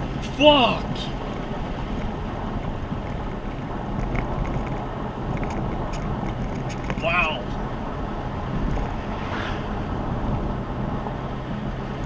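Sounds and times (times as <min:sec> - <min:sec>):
car engine hum: 0:00.0 - 0:12.0
road and wind noise: 0:00.0 - 0:12.0.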